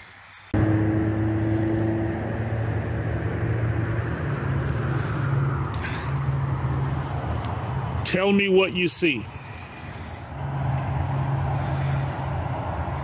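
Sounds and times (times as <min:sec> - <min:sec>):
vehicle engine running: 0:00.4 - 0:13.0.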